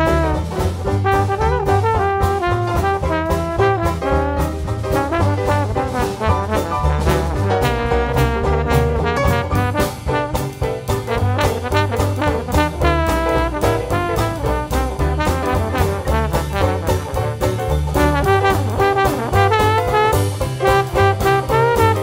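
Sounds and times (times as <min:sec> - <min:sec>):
upbeat swing music with brass: 0:00.0 - 0:22.0.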